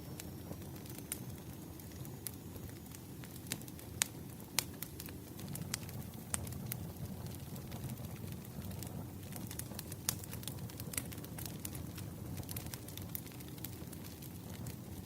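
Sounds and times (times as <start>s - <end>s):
fire crackling and popping: 0.0s - 15.0s
rumble of flames: 0.0s - 15.0s.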